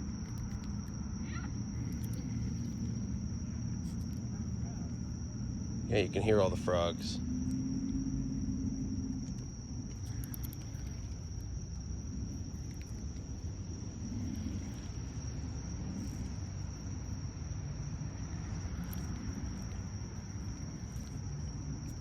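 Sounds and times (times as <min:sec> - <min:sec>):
frogs calling: 0:00.0 - 0:22.0
high-pitched insect drone: 0:00.0 - 0:22.0
low rumble: 0:00.0 - 0:22.0.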